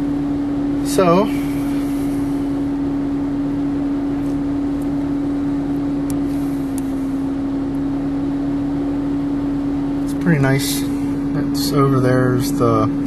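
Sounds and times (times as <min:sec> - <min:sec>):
car engine: 0:00.0 - 0:13.0
low hum: 0:00.0 - 0:13.0
road noise: 0:00.0 - 0:13.0.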